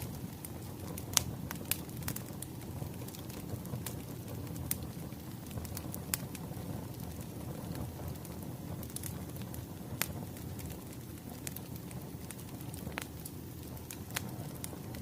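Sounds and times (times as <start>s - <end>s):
firewood popping: 0.0s - 15.0s
wood fire crackling: 0.0s - 15.0s.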